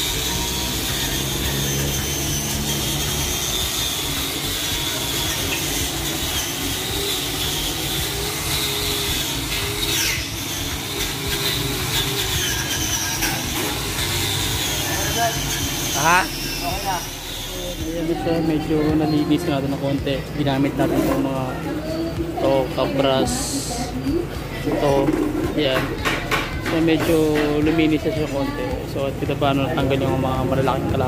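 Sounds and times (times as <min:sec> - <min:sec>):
angle grinder grinding metal: 0:00.0 - 0:31.0.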